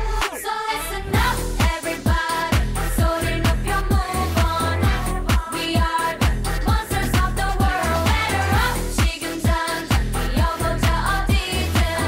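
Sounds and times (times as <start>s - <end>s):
voices singing: 0.0s - 12.0s
deep kick drums: 1.2s - 12.0s.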